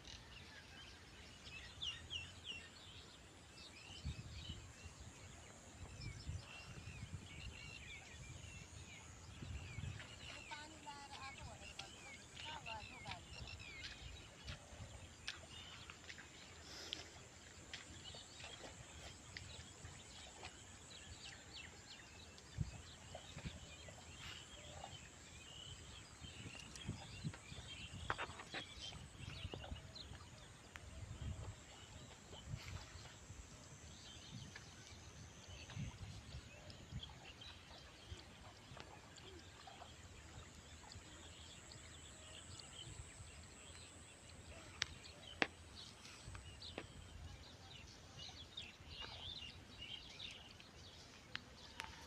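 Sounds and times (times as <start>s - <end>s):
small birds chirping: 5.3s - 52.0s.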